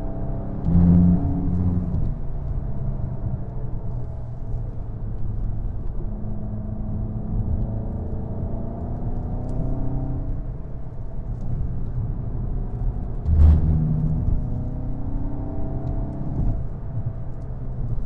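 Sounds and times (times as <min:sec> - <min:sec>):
car engine accelerating: 0:00.0 - 0:18.0
road and tyre noise: 0:00.0 - 0:18.0.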